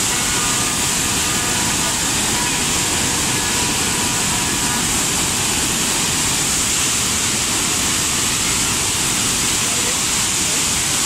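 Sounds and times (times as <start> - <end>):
river water rushing through gates: 0.0 - 11.0.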